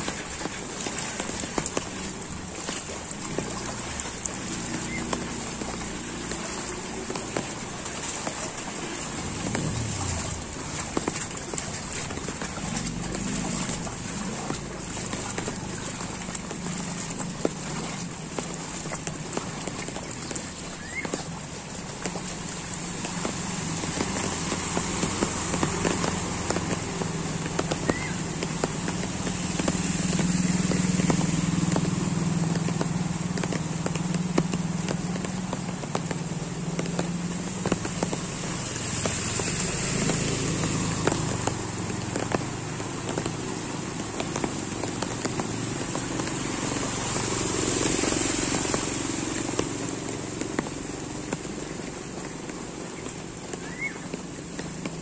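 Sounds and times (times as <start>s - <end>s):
motor scooter engines: 0.0s - 55.0s
steady rain: 0.0s - 55.0s.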